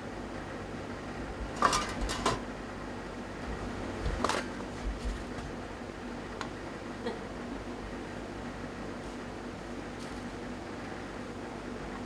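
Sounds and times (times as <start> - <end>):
hum of shop machinery: 0.0 - 12.0.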